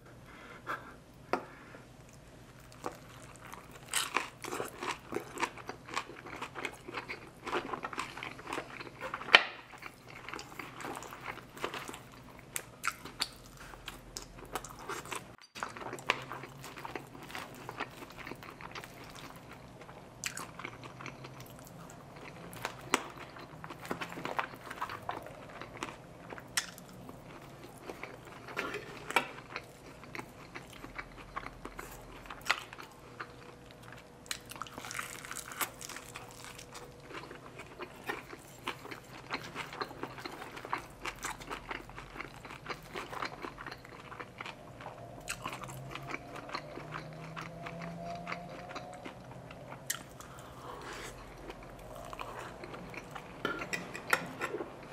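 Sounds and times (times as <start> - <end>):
chewing and crunching food: 2.0 - 54.9.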